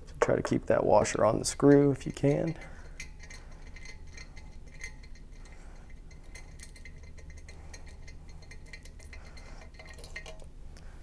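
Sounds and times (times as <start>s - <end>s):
steady low hum: 0.0s - 11.0s
metallic ticks of screw turning: 1.6s - 10.5s.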